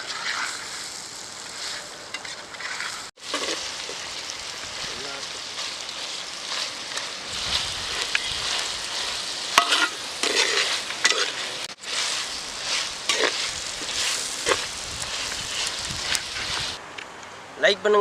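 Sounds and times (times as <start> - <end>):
spoon scraping a pan: 0.0 - 0.9, 1.5 - 4.0, 5.6 - 16.8
chicken sizzling in oil: 0.0 - 16.8.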